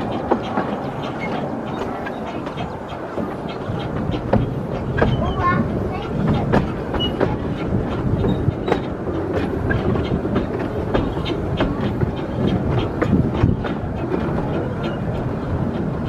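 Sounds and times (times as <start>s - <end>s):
train low rumble: 0.0s - 16.0s
wheels clacking over rail joints: 0.0s - 16.0s.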